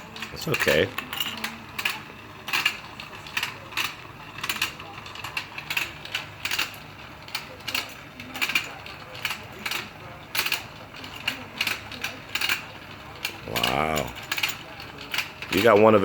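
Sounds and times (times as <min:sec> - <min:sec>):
clicking and clacking mechanism: 0:00.0 - 0:16.0
toy motor hum: 0:00.0 - 0:16.0.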